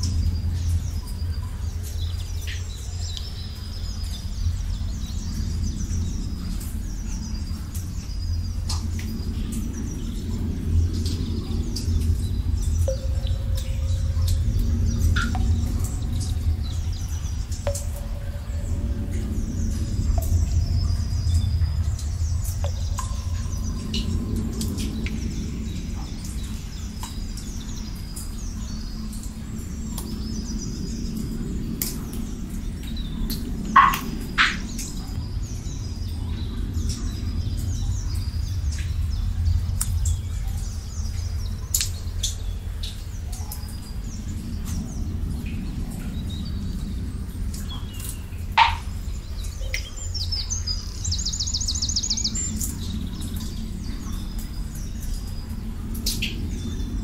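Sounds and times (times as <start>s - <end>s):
low steady rumble: 0.0s - 57.0s
small birds chirping: 0.0s - 57.0s
water-drop plinks: 0.0s - 57.0s.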